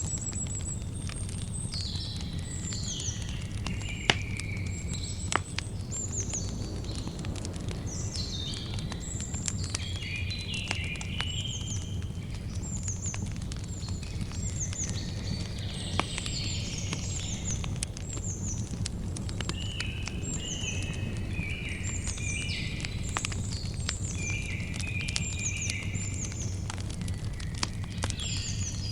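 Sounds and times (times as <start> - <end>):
birds singing: 0.0 - 28.9
campfire crackling: 0.0 - 28.9.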